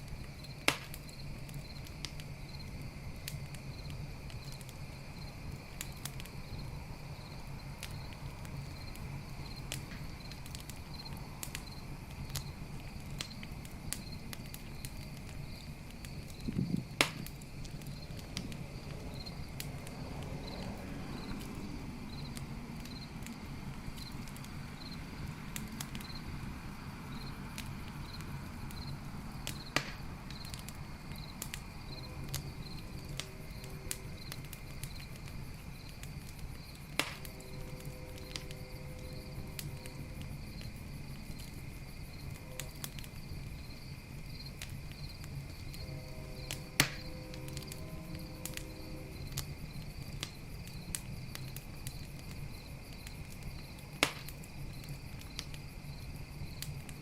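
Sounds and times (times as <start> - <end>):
campfire crackling and popping: 0.0 - 57.0
crickets chirping: 0.0 - 57.0.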